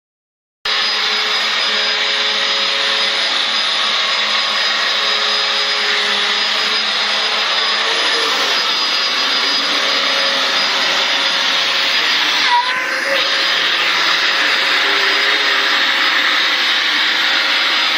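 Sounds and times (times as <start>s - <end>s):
vacuum cleaner running: 0.7s - 17.9s.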